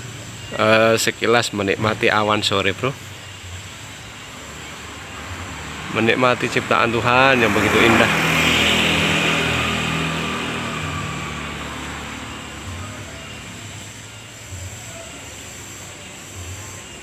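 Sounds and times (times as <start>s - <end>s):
vehicle engine passing: 1.8s - 17.0s.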